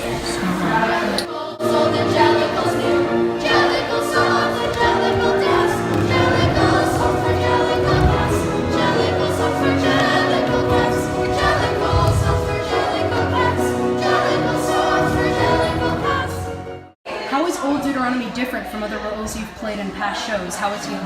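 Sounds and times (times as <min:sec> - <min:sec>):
choir singing sustained notes: 0:00.0 - 0:17.0.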